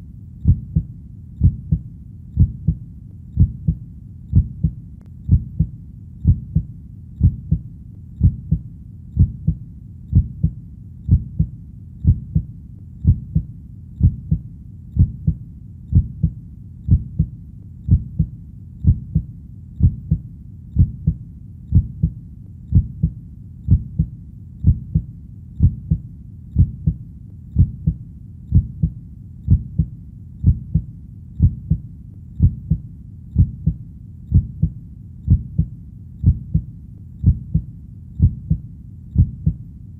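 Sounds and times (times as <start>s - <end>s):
heartbeat thumping: 0.0s - 39.7s
faint low rumble: 0.0s - 39.9s.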